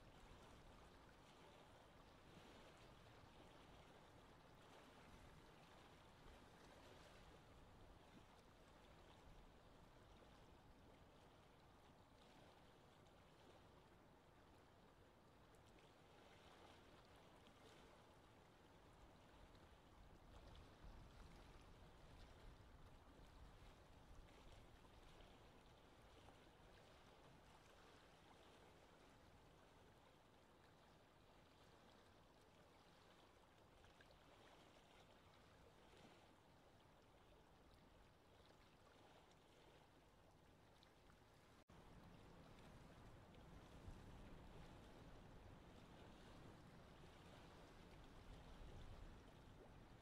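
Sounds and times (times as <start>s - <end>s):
faint lapping water: 0.0s - 50.0s.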